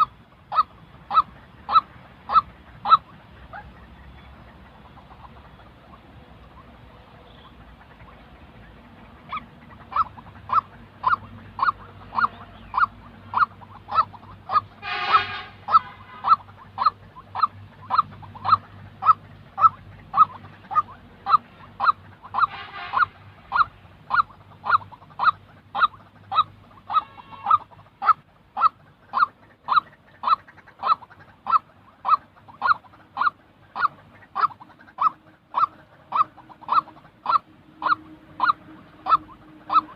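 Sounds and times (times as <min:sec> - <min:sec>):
bird honking calls: 0:00.0 - 0:39.9
harsh rough bird calls: 0:00.0 - 0:39.9.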